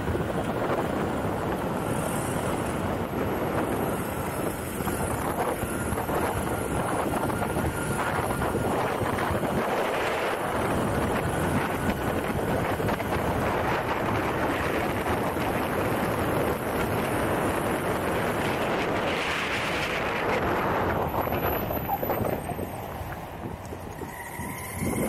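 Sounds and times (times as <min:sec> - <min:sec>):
skateboard wheels rolling on asphalt: 0:00.0 - 0:25.0
wind rushing over microphone: 0:00.0 - 0:25.0.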